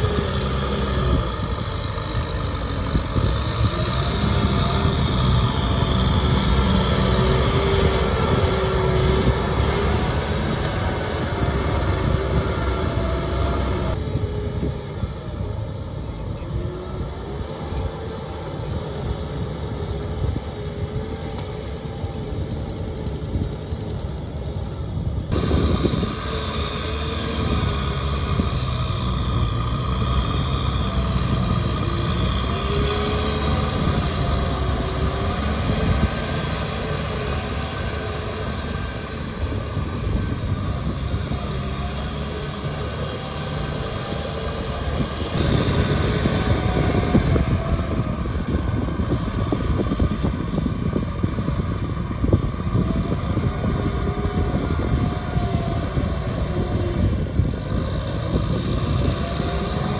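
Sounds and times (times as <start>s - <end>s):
rotary tiller churning wet field: 0.0s - 59.9s
tractor diesel engine under load: 0.0s - 59.9s.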